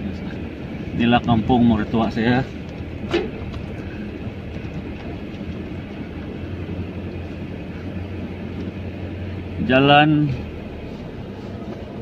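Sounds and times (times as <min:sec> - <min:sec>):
car engine humming: 0:00.0 - 0:12.0
tyres on dirt track: 0:00.0 - 0:12.0.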